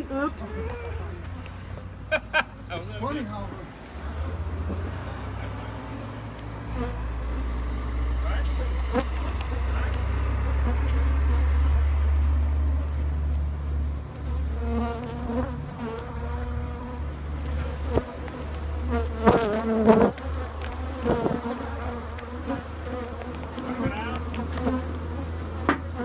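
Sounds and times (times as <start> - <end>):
bees buzzing: 3.6 - 26.0.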